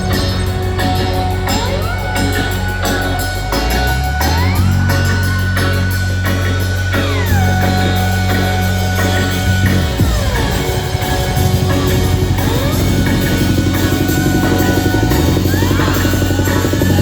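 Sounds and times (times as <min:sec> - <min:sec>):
loud live band music: 0:00.0 - 0:17.0
synth sweeps: 0:00.0 - 0:17.0.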